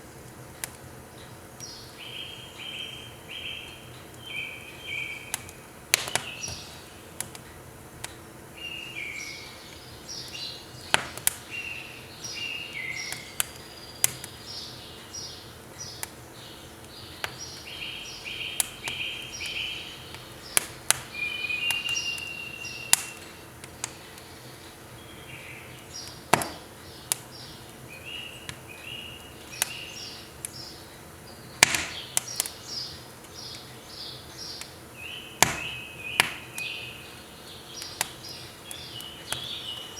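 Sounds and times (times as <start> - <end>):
firewood crackling and popping: 0.0 - 2.0, 2.9 - 39.9
birds chirping: 1.0 - 39.9.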